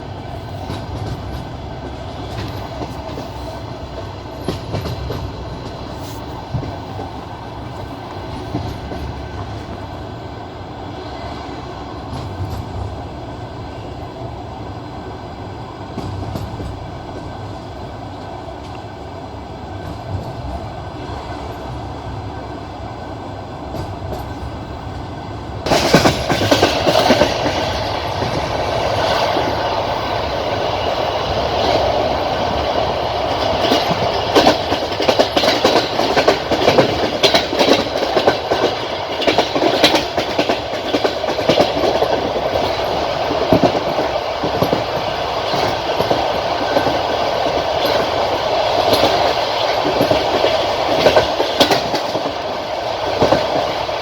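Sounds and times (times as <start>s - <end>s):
train wheels clacking on rails: 0.0s - 10.3s, 10.9s - 14.1s, 15.8s - 17.6s, 19.7s - 22.0s, 23.6s - 54.0s
train rumble: 0.0s - 54.0s.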